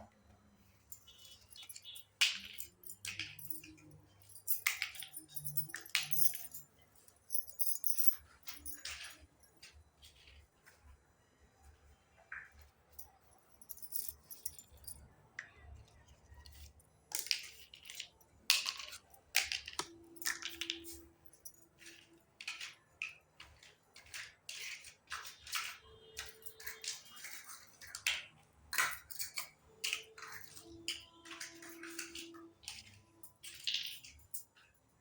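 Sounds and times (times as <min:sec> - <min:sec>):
toy kitchen pieces clinking: 0:00.7 - 0:10.4, 0:12.6 - 0:35.0.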